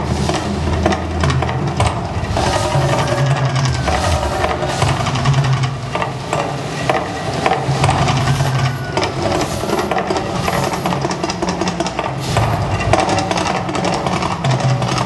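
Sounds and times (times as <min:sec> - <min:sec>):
gas flames crackling hiss: 0:00.0 - 0:15.0
low rumble: 0:00.0 - 0:15.0.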